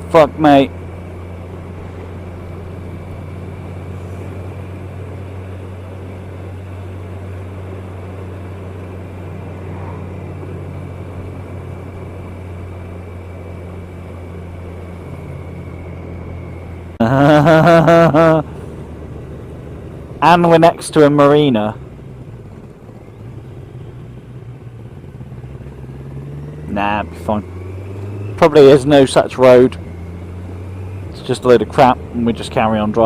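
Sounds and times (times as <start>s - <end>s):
motorcycle engine at low revs: 0.0s - 33.0s.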